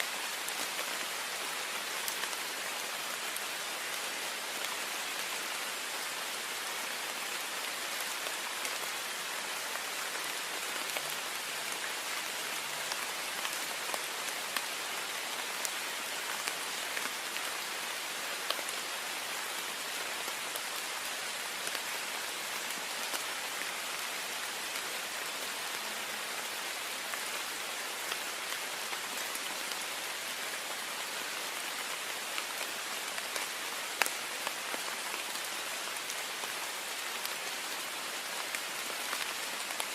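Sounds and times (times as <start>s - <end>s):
heavy rain on a window pane: 0.0s - 39.9s.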